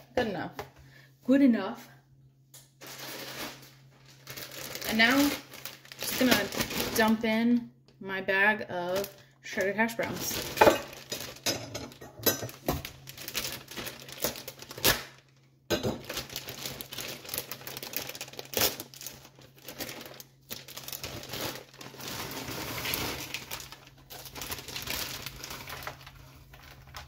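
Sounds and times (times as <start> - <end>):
plastic bag crinkling: 2.8 - 7.3, 8.8 - 27.0.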